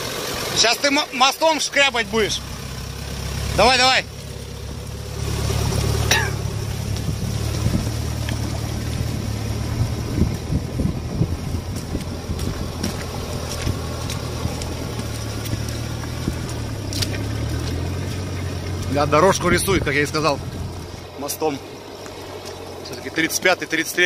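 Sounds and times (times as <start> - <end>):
car engine running under load: 0.0 - 24.0
mud and water splashing: 0.0 - 24.0.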